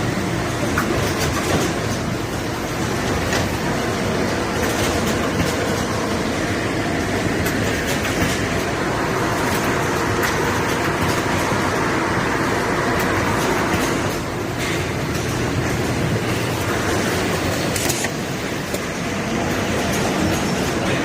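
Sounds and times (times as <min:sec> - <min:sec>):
shrink-wrapping machine rumbling: 0:00.0 - 0:21.0.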